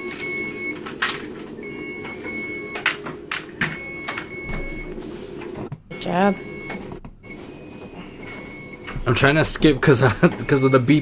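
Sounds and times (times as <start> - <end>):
hospital equipment beeping: 0.0 - 11.0
steady machine hum: 0.0 - 11.0.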